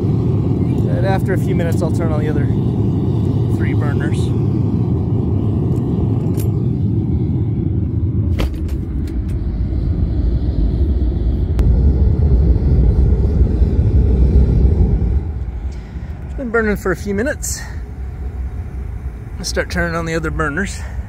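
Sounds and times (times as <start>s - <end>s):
gas burner flame rumbling: 0.0s - 21.0s.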